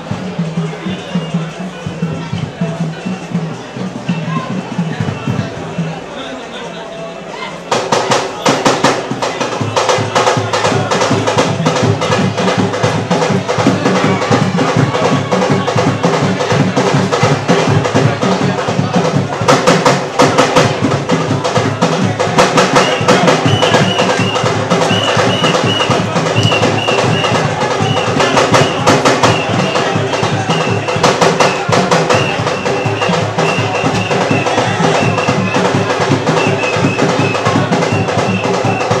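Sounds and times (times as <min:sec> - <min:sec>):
fast dense drumming: 0:00.0 - 0:06.1, 0:07.7 - 0:39.0.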